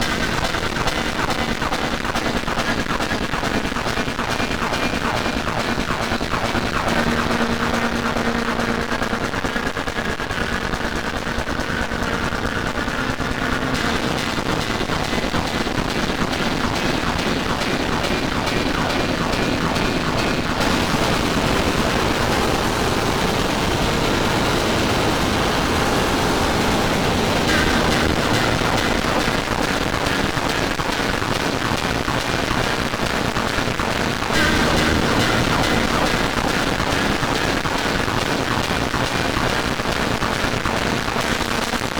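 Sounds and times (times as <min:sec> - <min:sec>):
distorted electronic music mashup: 0:03.9 - 0:41.9.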